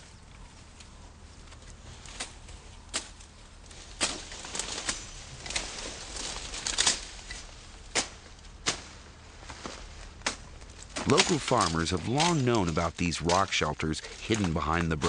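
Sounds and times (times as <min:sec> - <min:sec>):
rustling: 0:00.0 - 0:15.0
sharp cracks and crunches: 0:01.5 - 0:15.0.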